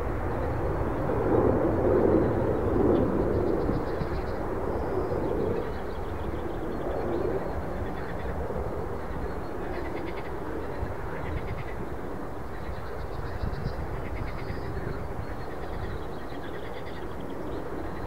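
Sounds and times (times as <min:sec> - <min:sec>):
jet airliner rumble: 0:00.0 - 0:18.0.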